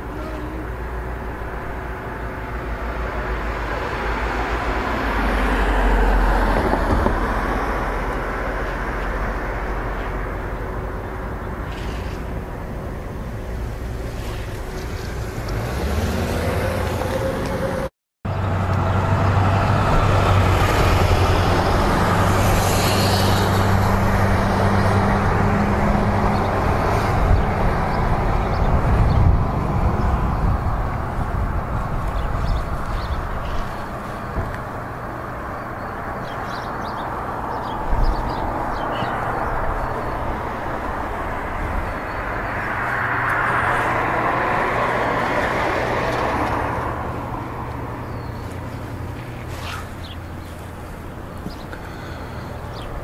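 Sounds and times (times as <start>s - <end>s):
low engine hum: 0.0s - 53.0s
traffic passing on road: 0.0s - 53.0s.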